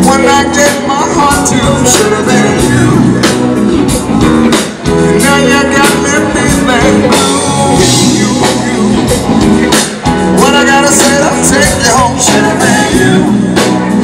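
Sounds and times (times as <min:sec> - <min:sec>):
lead vocal singing: 0:00.0 - 0:09.0, 0:10.2 - 0:14.0
drum kit: 0:00.0 - 0:14.0
electric guitars: 0:00.0 - 0:14.0
keyboard: 0:00.0 - 0:14.0.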